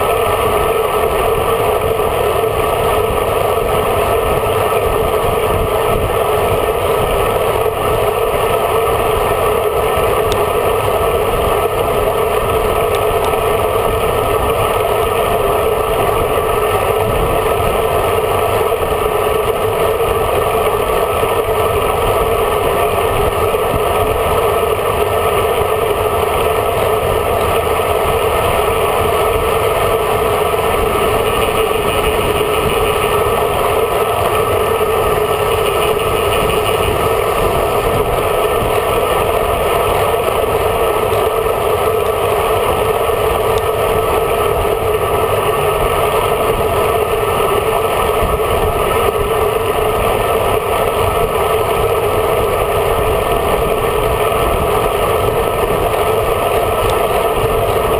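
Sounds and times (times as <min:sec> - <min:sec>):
road noise: 0:00.0 - 0:57.9
wind rushing over microphone: 0:00.0 - 0:57.9.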